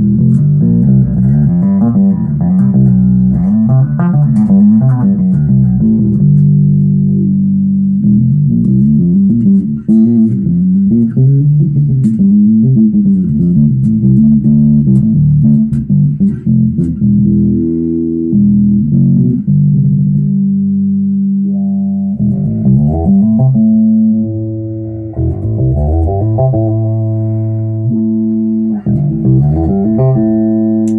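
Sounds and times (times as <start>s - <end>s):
electric bass plucked notes: 0.0s - 30.9s.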